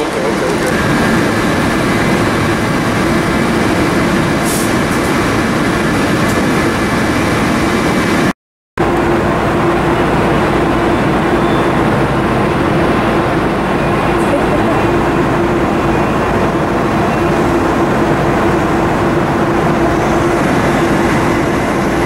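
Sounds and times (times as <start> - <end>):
spray booth machinery drone: 0.0 - 8.2, 8.8 - 22.0.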